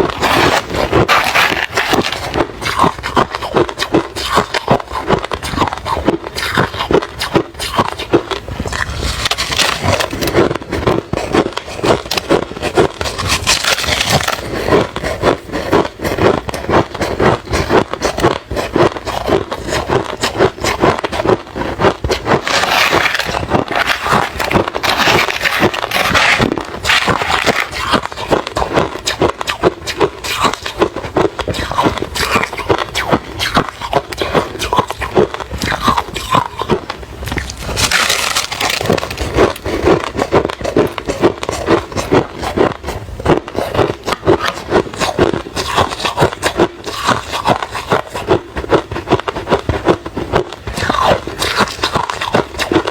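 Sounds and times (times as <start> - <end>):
chewing crushed ice: 0.0 - 52.9.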